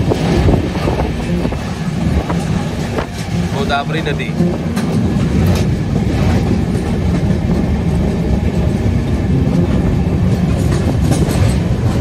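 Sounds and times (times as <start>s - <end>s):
light clatter of train: 0.0s - 12.0s
train wheels rumbling on track: 0.0s - 12.0s.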